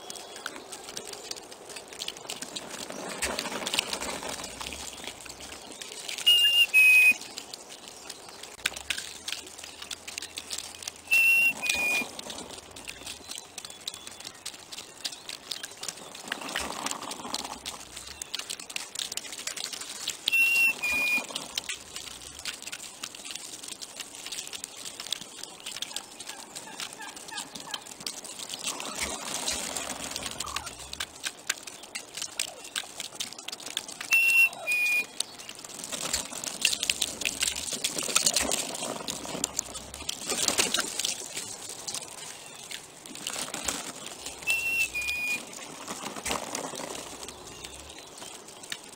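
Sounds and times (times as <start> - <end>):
turkeys pecking clicks: 0.0 - 48.9.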